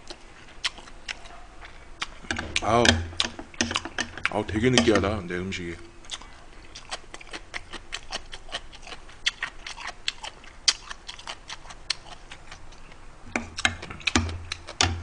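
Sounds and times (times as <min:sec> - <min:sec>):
chewing mouth clicks and smacks: 0:00.0 - 0:04.4, 0:06.0 - 0:13.0, 0:13.6 - 0:15.0.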